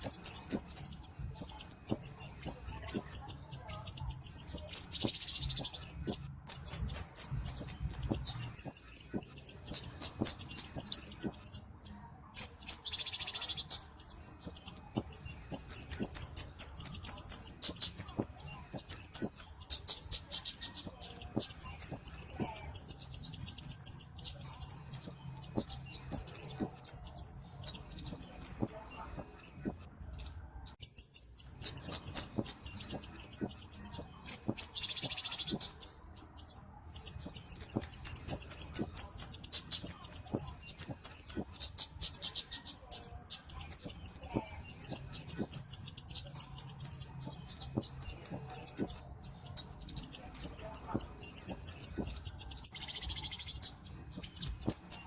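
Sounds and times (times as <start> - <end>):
flowerpecker high chip calls: 0.0 - 55.0.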